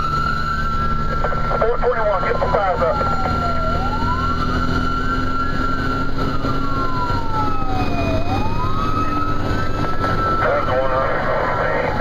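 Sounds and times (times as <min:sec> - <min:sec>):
fire engine siren wailing: 0:00.0 - 0:12.0
truck engine running: 0:00.0 - 0:12.0.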